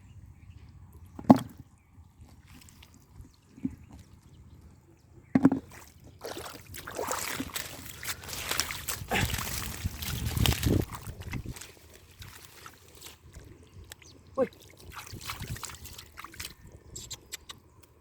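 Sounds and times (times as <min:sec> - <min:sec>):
muddy water splashing: 0:02.2 - 0:04.8, 0:05.5 - 0:17.5.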